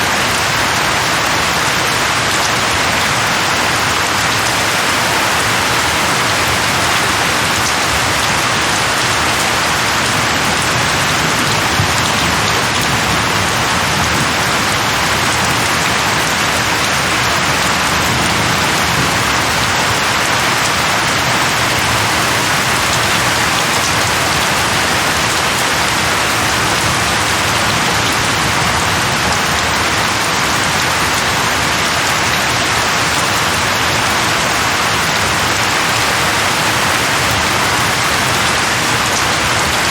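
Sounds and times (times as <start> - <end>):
heavy rain hissing: 2.0 - 39.9.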